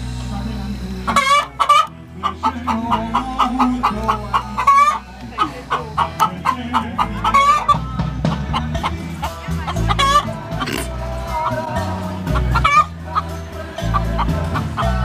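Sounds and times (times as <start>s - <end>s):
chickens calling: 1.0s - 9.1s, 9.7s - 11.6s, 12.2s - 15.0s.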